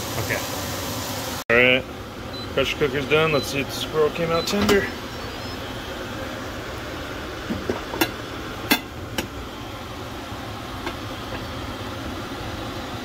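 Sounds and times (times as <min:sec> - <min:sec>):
steady background hum: 0:01.5 - 0:13.0.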